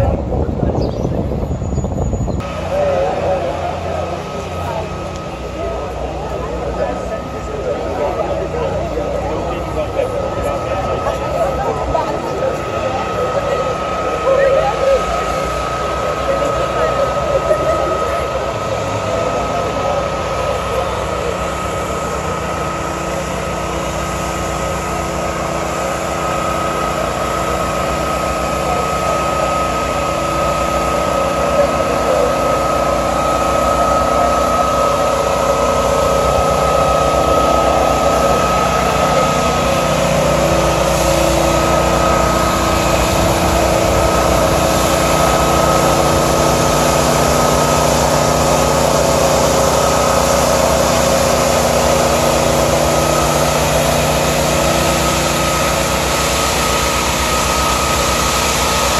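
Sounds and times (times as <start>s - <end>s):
engine droning: 0.0s - 58.9s
high whine: 0.0s - 58.9s.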